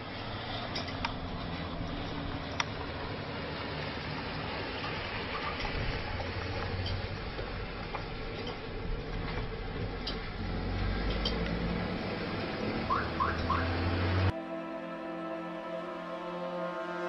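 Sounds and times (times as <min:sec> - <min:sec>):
distant city traffic rumble: 0:00.0 - 0:17.0.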